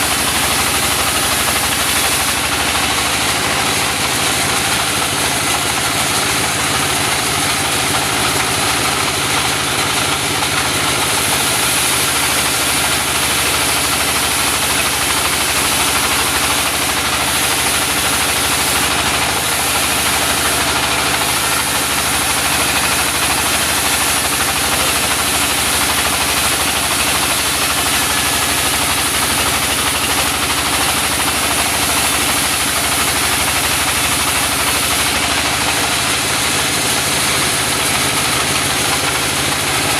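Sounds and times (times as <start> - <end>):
saw cutting log hiss: 0.0 - 39.9
sawmill engine drone: 0.0 - 39.9.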